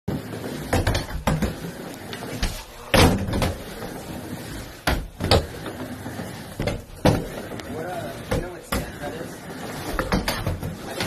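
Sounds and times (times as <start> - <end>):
skateboard wheels rolling on ramp: 0.1 - 11.0.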